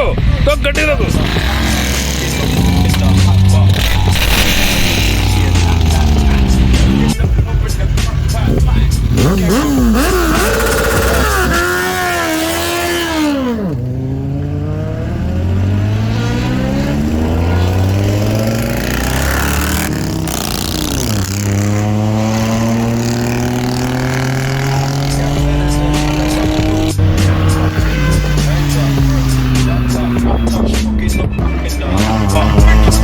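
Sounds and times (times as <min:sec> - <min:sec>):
motorcycle engine revving and accelerating: 0:00.0 - 0:33.0.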